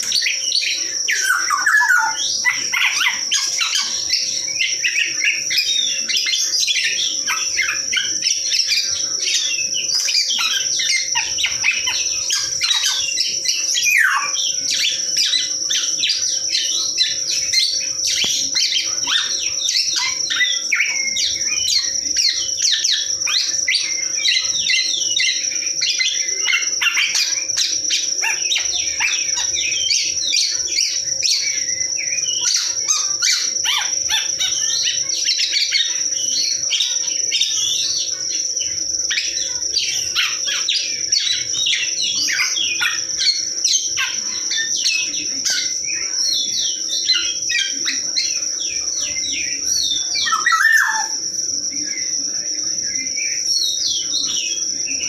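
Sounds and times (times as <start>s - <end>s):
songbirds chirping and singing: 0.0s - 55.0s
steady high-pitched tone: 0.0s - 55.0s.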